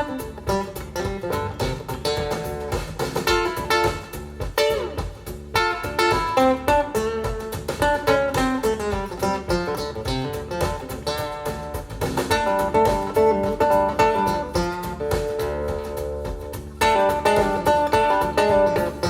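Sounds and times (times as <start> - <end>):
acoustic guitar music on loudspeakers: 0.0 - 19.0.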